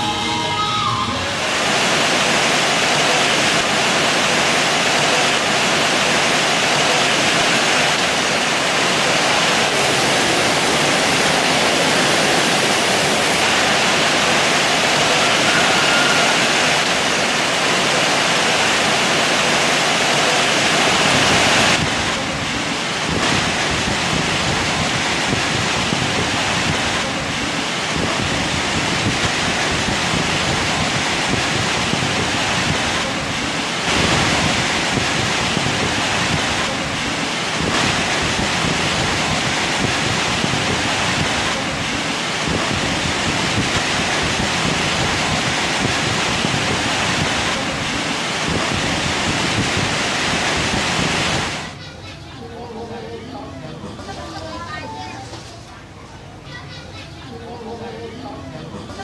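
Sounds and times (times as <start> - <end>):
heavy rain falling: 0.0 - 52.3, 53.5 - 56.9.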